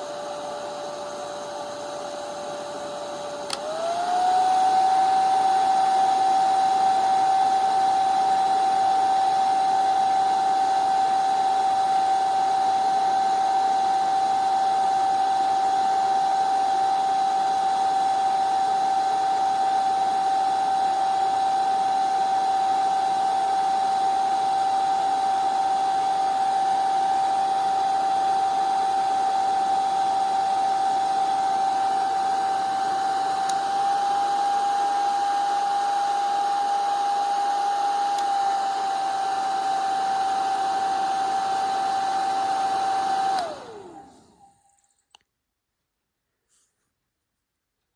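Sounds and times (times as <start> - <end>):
hair dryer whine and rushing air: 0.0 - 44.6.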